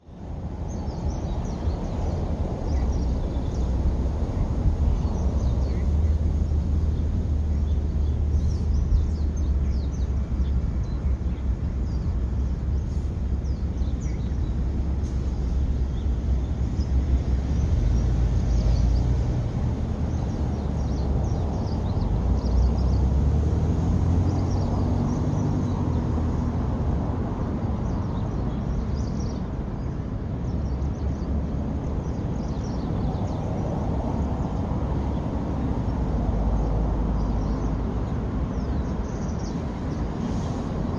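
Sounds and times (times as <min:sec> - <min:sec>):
low outdoor rumble: 0:00.1 - 0:40.9.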